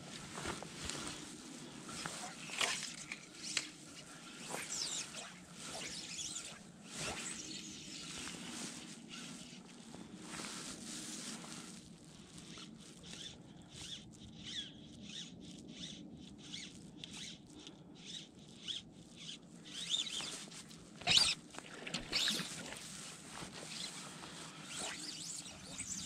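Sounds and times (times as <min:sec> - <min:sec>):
fly line rasping through rod guides: 0:00.0 - 0:26.0.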